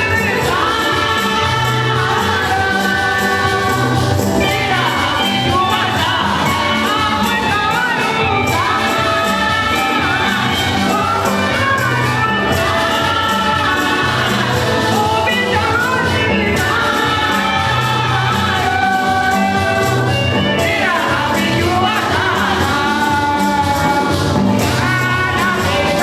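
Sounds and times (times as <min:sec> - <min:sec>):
choir singing a hymn: 0:00.0 - 0:26.0
instrumental accompaniment: 0:00.0 - 0:26.0.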